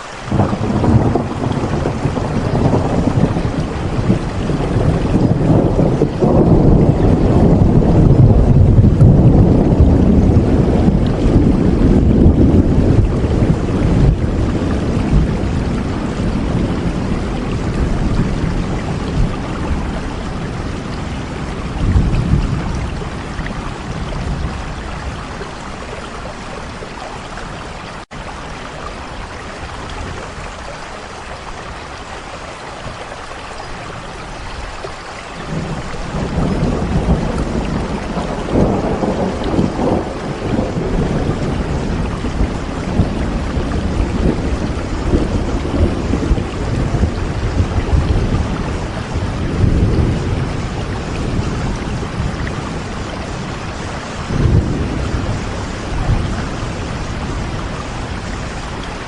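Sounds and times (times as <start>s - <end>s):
steady rain: 0.0s - 59.0s
thunder rumbling: 0.2s - 59.0s.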